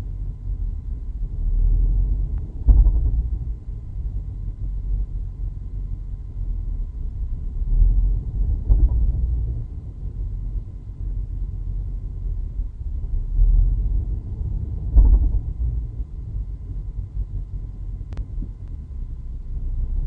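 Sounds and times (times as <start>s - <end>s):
car engine rumble inside cabin: 0.0s - 20.0s.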